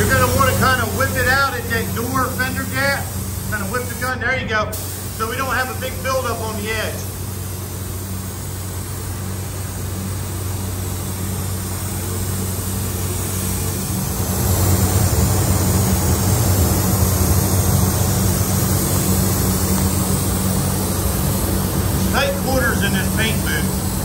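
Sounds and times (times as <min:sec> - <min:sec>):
air system humming: 0:00.0 - 0:24.0
spray gun hissing: 0:00.0 - 0:24.0.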